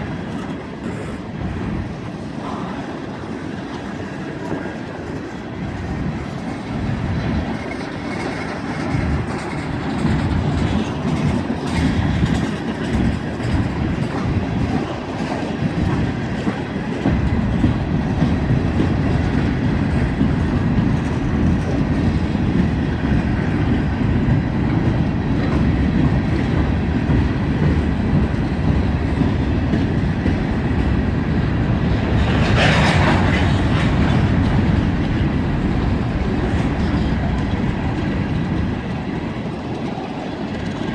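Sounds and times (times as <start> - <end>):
low train rumble: 0.0 - 40.9
train wheels clacking over rail joints: 0.0 - 40.9.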